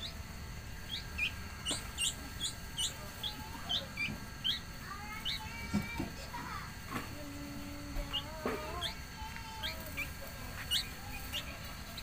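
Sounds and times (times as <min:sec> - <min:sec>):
small bird chirping: 0:00.0 - 0:06.0, 0:07.4 - 0:12.0.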